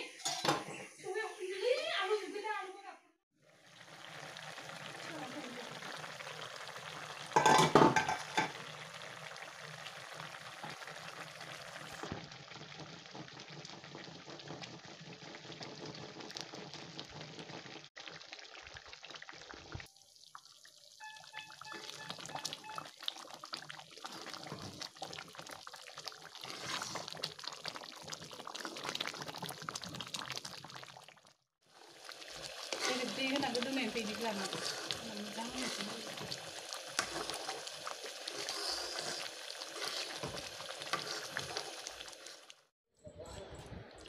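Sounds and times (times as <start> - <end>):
food simmering and bubbling: 3.4 - 42.7.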